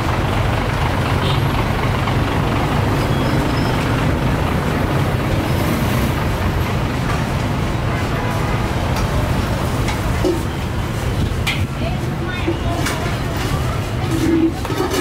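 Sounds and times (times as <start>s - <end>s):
low rumble of motor traffic: 0.0s - 15.0s.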